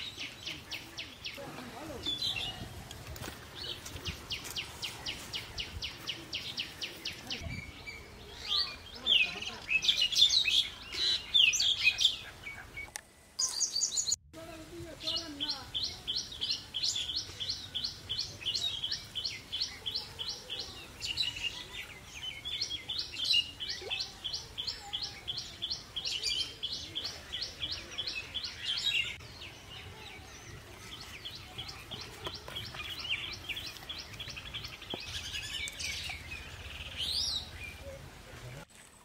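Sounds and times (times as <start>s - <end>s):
bird chirping: 3.6s - 14.2s, 15.0s - 38.0s.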